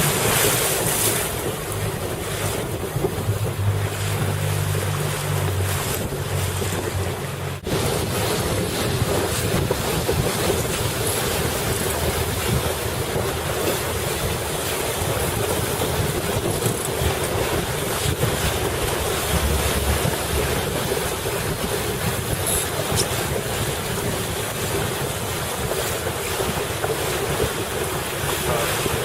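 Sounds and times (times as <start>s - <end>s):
water splashing around boat: 0.0s - 29.0s
wind buffeting microphone: 0.0s - 29.0s.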